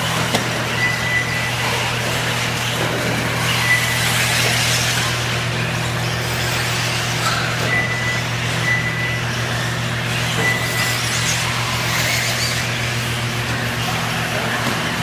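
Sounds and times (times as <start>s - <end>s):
constant low hum: 0.0s - 15.0s
rc car motor whine: 0.0s - 15.0s.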